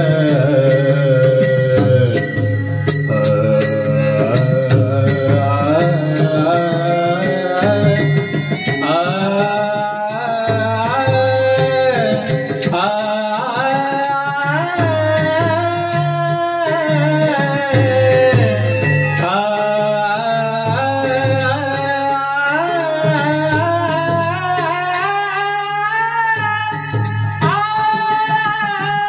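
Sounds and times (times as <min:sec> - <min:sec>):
man singing devotional tune: 0:00.0 - 0:29.0
small hand cymbals struck: 0:00.0 - 0:29.0.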